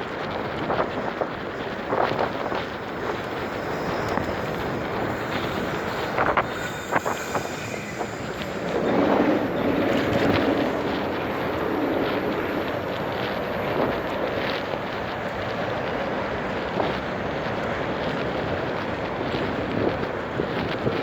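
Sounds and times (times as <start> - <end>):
bicycle rolling rumble: 0.0 - 21.0
wind buffeting microphone: 0.0 - 21.0.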